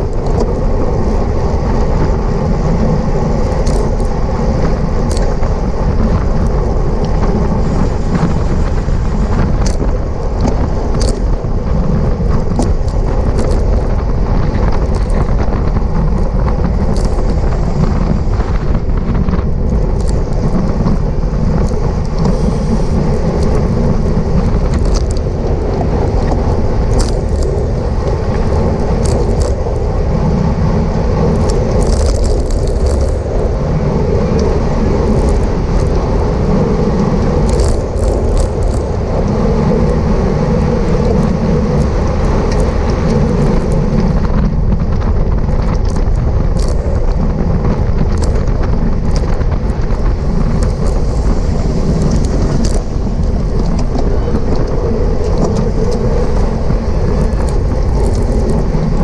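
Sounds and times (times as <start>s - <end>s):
road rumble: 0.0s - 59.0s
wind rush on microphone: 0.0s - 59.0s.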